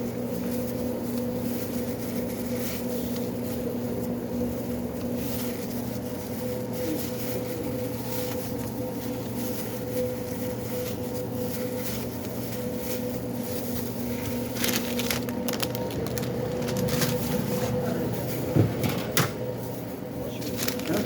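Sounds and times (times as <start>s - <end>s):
kitchen equipment machine hum: 0.0s - 21.0s.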